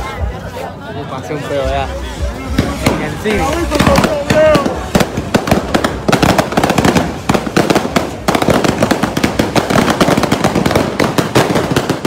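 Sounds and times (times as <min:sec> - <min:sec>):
fireworks bangs and crackles: 0:02.2 - 0:12.0.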